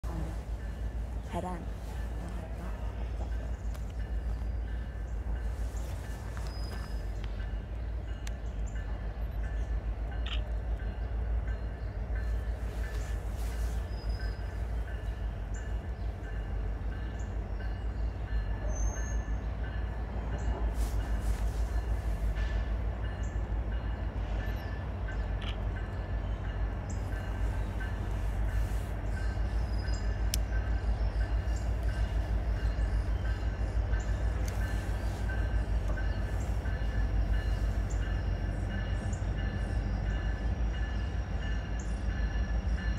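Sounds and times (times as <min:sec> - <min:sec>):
diesel train engine drone: 0:00.0 - 0:42.9.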